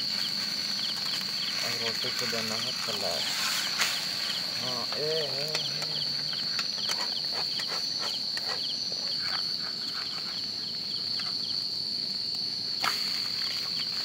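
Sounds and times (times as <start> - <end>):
cricket trill: 0.0 - 14.0.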